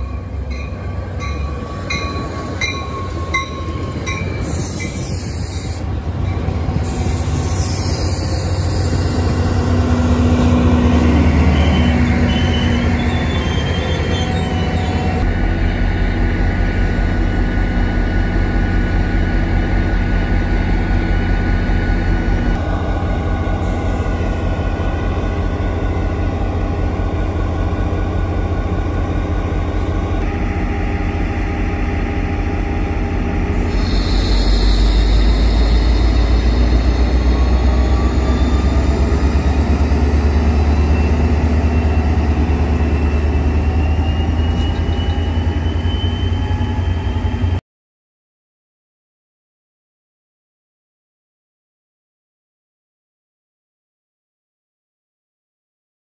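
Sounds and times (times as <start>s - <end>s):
diesel locomotive engine drone: 0.0s - 47.6s.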